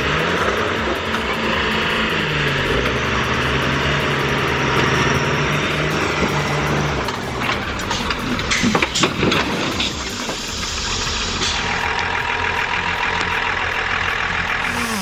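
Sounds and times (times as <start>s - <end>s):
machine engine running: 0.0s - 12.8s.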